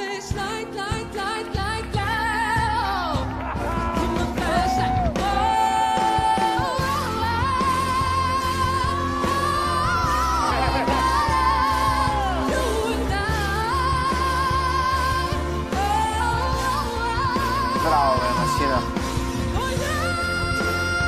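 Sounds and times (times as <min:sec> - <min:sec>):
person singing with vibrato: 0:00.0 - 0:21.0
pop backing track: 0:00.0 - 0:21.0.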